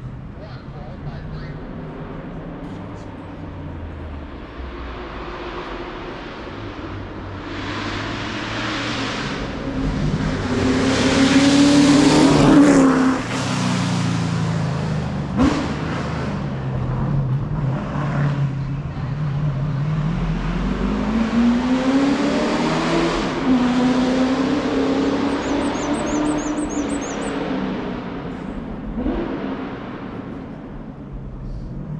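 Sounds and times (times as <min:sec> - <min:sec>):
race car engine revving past: 0:03.5 - 0:30.6.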